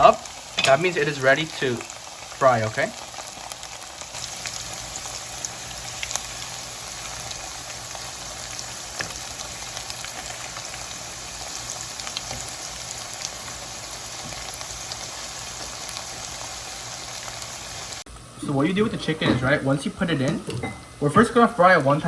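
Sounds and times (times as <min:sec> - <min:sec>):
hot oil sizzling and popping: 0:00.0 - 0:22.0.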